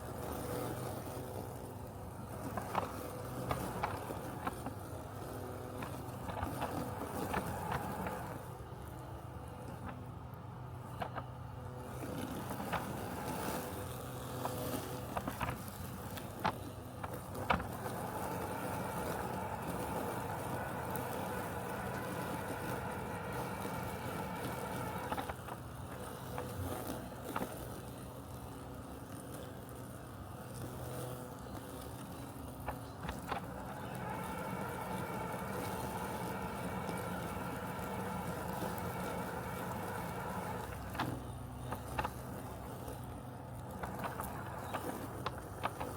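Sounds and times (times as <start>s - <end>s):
robotic lawn mower humming: 0.0s - 45.9s.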